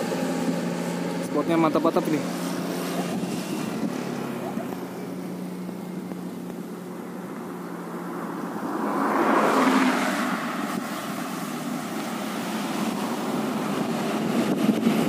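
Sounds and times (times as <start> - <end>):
low hum of engines: 0.0 - 15.0
vehicle passing close by: 0.0 - 15.0.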